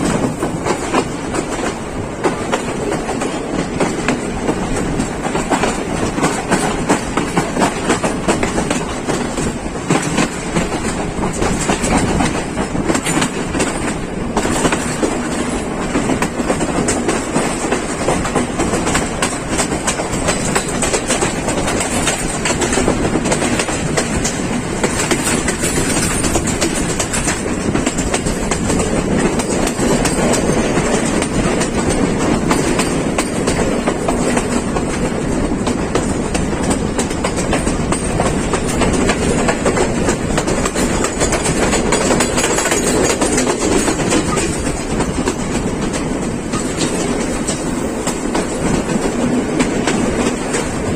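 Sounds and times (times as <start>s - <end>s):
train rumble: 0.0s - 50.9s
train wheels clattering over rail joints: 0.0s - 50.9s.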